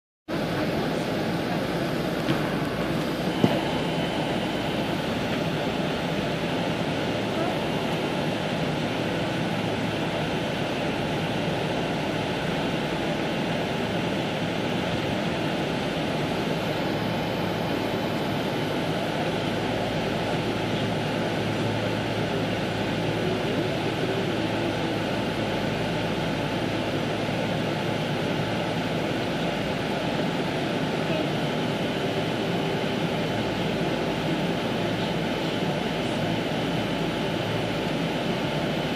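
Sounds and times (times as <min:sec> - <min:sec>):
aircraft cabin engine rush: 0:00.3 - 0:38.9
low hum: 0:00.3 - 0:38.9.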